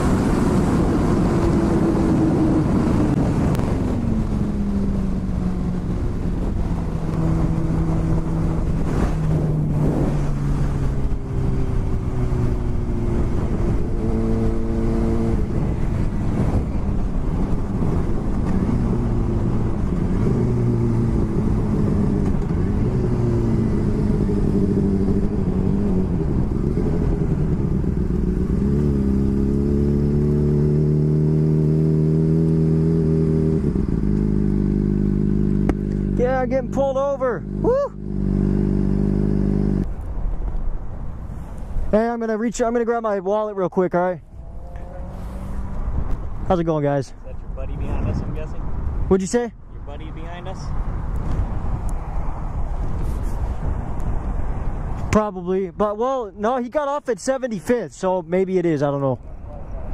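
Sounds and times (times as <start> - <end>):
wind noise: 0.0 - 36.4, 44.2 - 56.3
motorcycle engine at road speed: 0.0 - 59.9.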